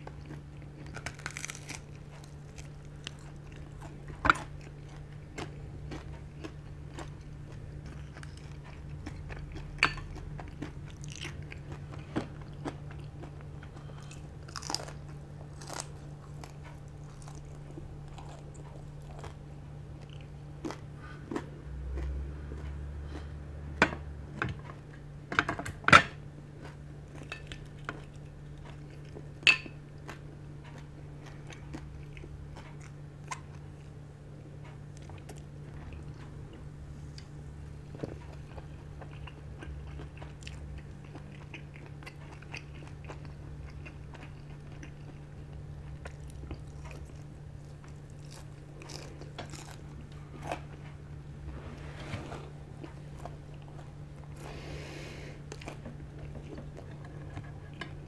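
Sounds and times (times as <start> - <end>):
crunching fried skin: 0.0 - 23.2, 26.5 - 51.4
close chewing and biting: 0.0 - 25.0, 26.4 - 51.4, 52.5 - 58.0.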